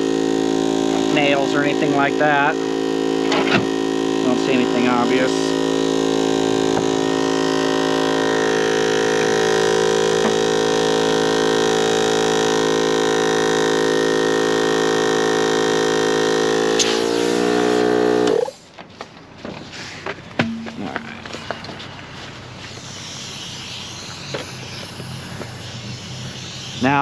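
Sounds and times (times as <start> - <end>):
air compressor motor running: 0.0 - 18.8, 19.6 - 27.0.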